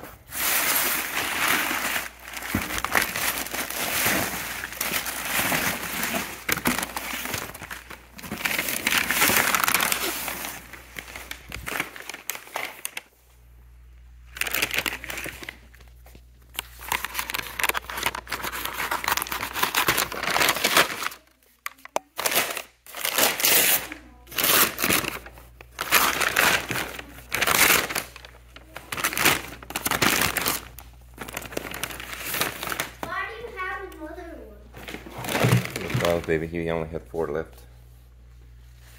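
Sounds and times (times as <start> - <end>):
packing paper crinkling: 0.0 - 13.1, 14.3 - 33.7, 34.8 - 36.7.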